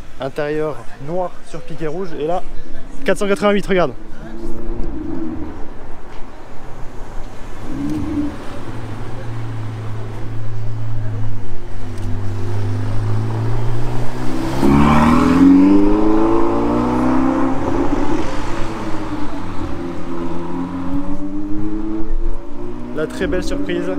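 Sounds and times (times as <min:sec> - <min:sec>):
car engine accelerating: 0:03.9 - 0:06.1, 0:06.8 - 0:23.9.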